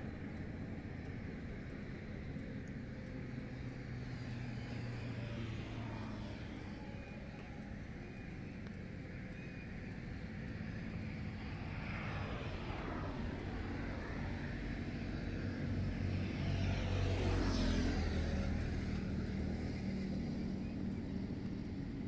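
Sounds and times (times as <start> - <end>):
vehicle engine driving past: 3.2 - 22.0.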